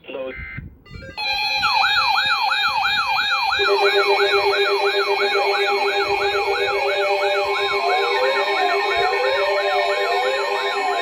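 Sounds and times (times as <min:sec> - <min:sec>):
electronic siren tone sweeping: 0:00.9 - 0:11.0
steady electronic tones: 0:01.0 - 0:11.0.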